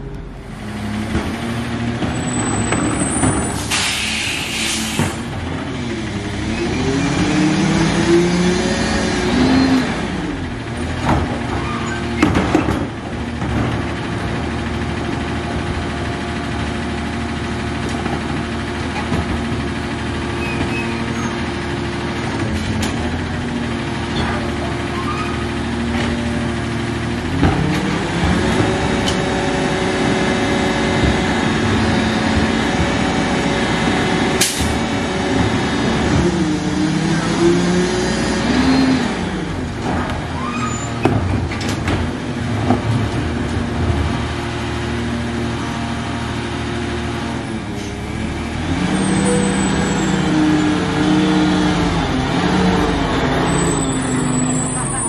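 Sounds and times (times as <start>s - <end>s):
garbage truck engine: 0.0s - 55.0s.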